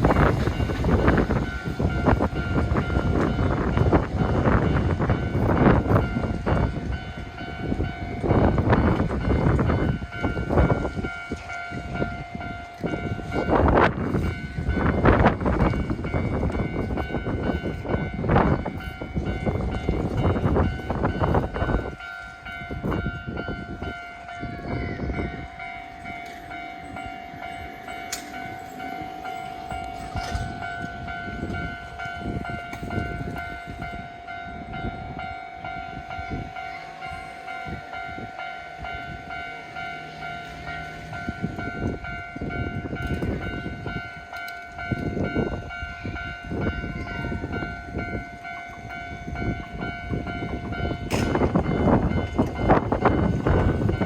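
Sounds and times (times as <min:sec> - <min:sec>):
level crossing warning bell: 0:00.0 - 0:54.0
train wheels passing: 0:00.0 - 0:54.0.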